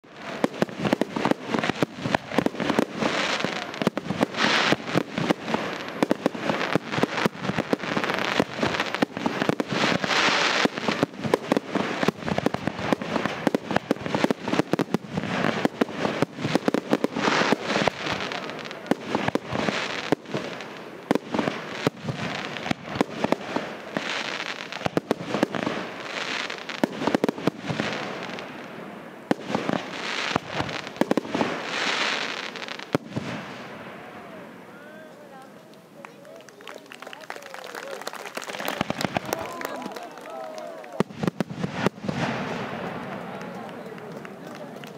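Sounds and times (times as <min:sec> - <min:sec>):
firework crackling: 0:00.0 - 0:44.9.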